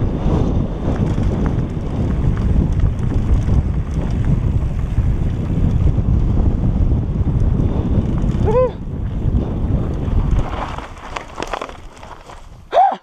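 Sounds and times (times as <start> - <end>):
bike tyres rumbling on gravel: 0.0 - 12.9
wind buffeting microphone: 0.0 - 12.9.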